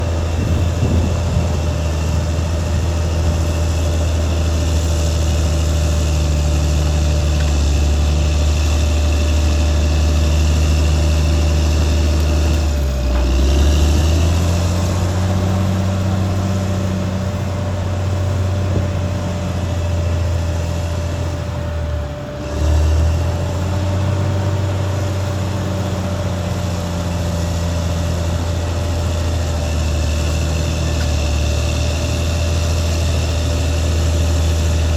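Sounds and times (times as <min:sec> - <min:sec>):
bulldozer diesel engine running: 0:00.0 - 0:34.9
thin steady whine: 0:00.0 - 0:34.9.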